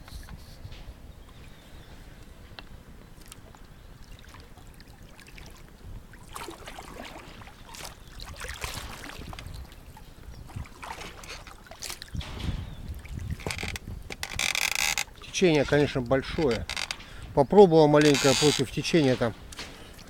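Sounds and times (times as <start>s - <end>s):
oars splashing in water: 3.0s - 20.0s.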